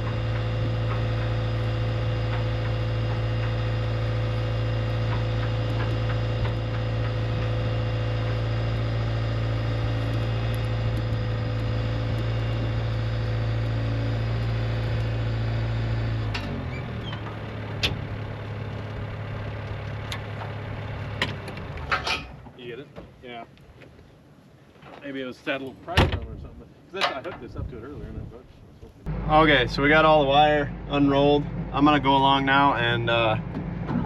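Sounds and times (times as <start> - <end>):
engine idling: 0.0 - 22.4, 29.0 - 34.0.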